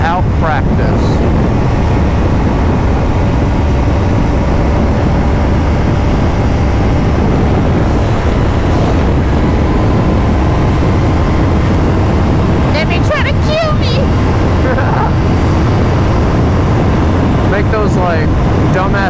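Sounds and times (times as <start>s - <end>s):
motorcycle engine cruising: 0.0s - 19.0s
road and wind noise: 0.0s - 19.0s.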